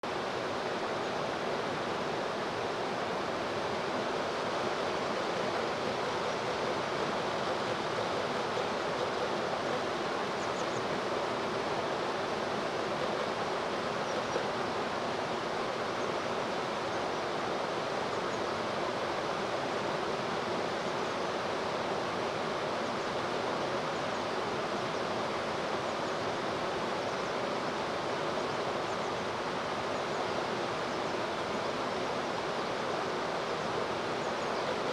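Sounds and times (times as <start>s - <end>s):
flowing river water: 0.0s - 34.9s.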